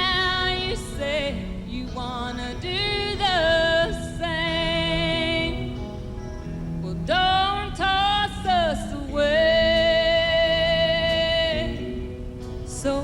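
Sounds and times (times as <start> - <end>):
woman singing country song: 0.0 - 13.0.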